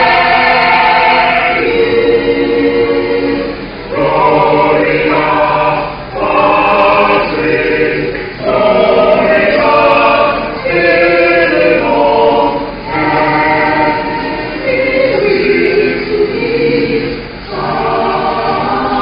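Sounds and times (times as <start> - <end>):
church choir singing: 0.0 - 19.0.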